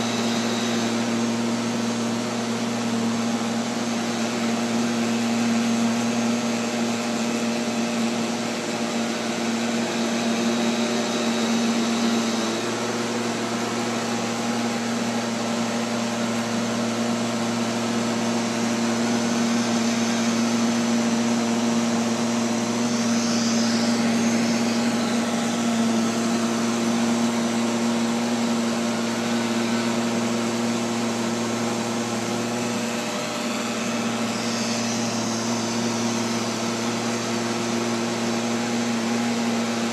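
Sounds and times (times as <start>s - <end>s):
robotic vacuum cleaner motor hum: 0.0s - 39.9s.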